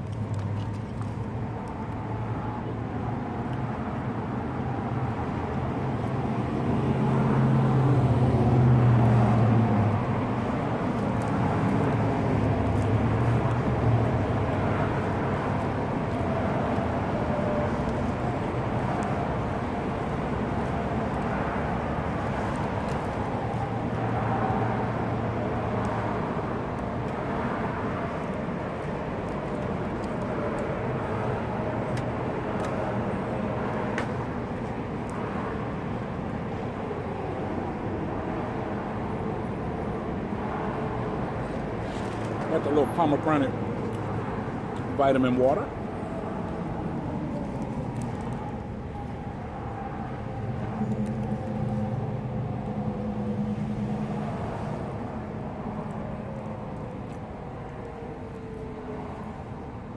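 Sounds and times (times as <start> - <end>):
road traffic rumbling: 0.0 - 59.9
vehicle passing: 4.6 - 59.9.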